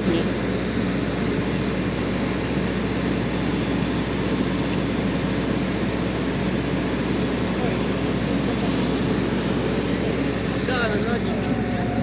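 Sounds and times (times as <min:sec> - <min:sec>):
jet aircraft engines droning: 0:00.0 - 0:12.0.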